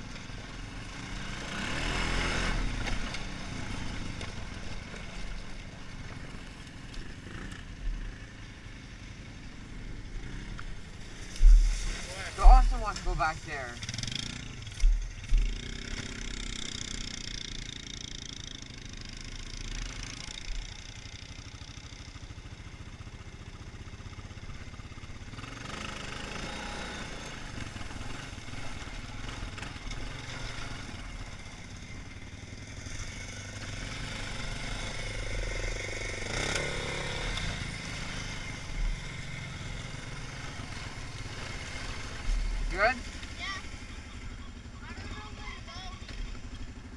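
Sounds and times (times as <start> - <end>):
single-cylinder atv engine running: 0.0 - 46.9.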